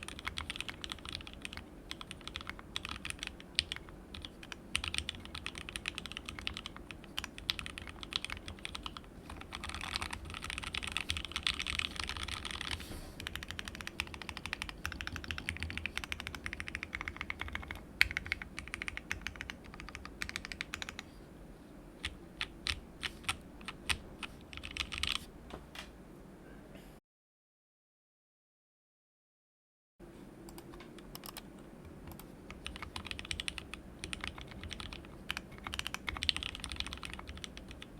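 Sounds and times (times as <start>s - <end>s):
mechanical keyboard typing: 0.0s - 21.0s, 22.0s - 25.2s, 30.5s - 31.5s, 32.1s - 37.9s.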